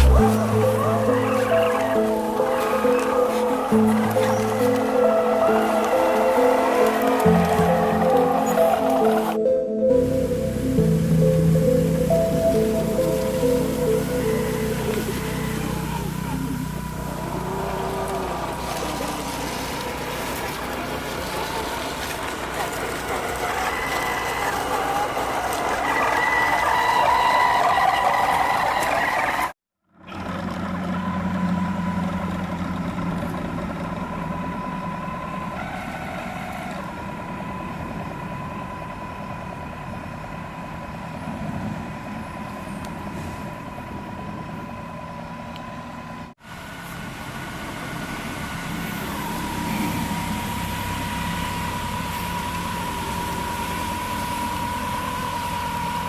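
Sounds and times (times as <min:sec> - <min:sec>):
wheels rumbling: 0:00.0 - 0:56.0.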